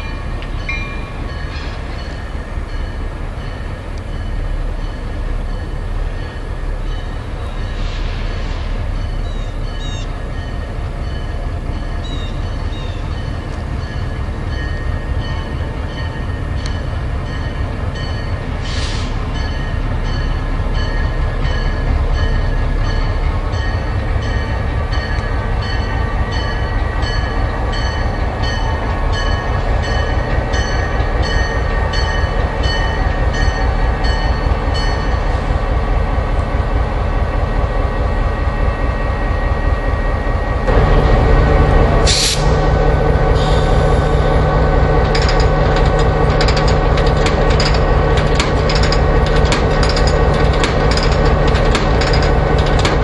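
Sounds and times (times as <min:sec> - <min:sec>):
locomotive bell ringing: 0:00.0 - 0:07.5, 0:08.9 - 0:35.5, 0:42.5 - 0:53.0
locomotive engine rumbling: 0:00.0 - 0:53.0.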